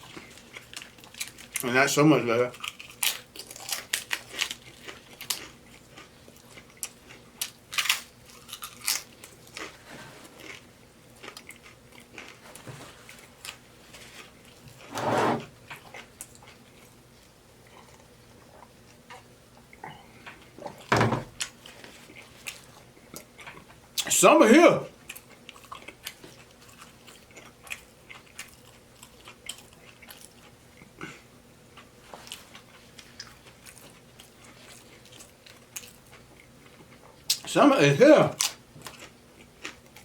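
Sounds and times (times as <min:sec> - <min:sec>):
person chewing and crunching food: 0:00.0 - 0:01.8, 0:02.4 - 0:24.1, 0:24.9 - 0:37.5, 0:38.4 - 0:40.0.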